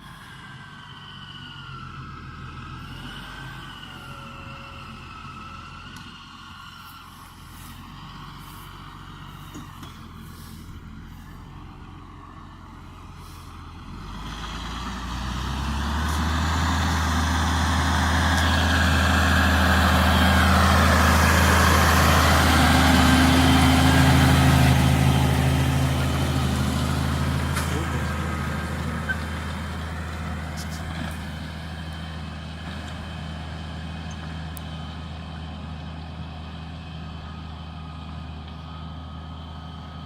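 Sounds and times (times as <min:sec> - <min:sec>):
tractor diesel engine drone: 0:00.0 - 0:40.0.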